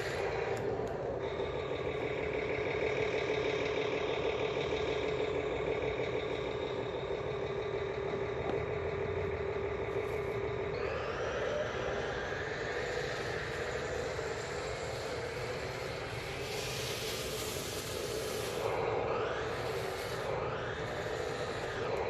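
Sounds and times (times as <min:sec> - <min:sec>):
diesel truck idle through small speaker: 0:00.0 - 0:22.0.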